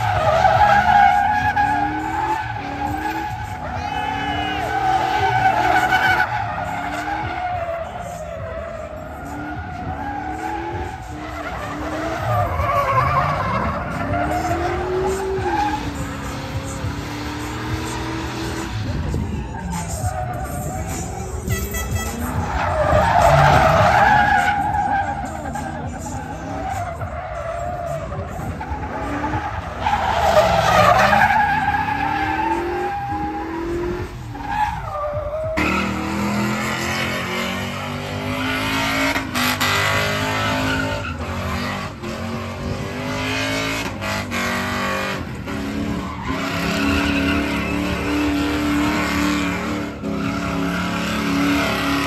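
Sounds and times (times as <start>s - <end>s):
tires squealing: 0.0s - 52.0s
truck engine at high revs: 0.0s - 52.0s.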